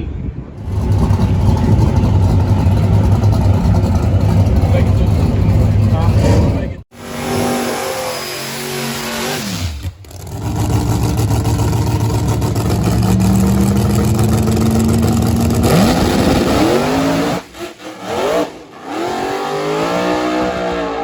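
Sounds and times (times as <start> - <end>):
drag race car engines: 0.6 - 21.0.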